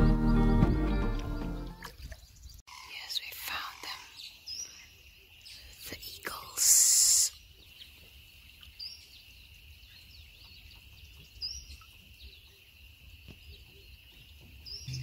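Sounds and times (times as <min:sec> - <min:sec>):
small bird chirps: 0:02.0 - 0:15.0.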